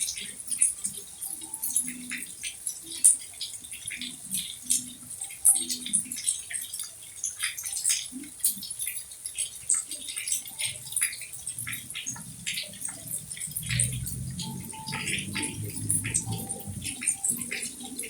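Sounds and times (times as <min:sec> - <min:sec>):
rain dripping and pattering: 0:00.0 - 0:18.0.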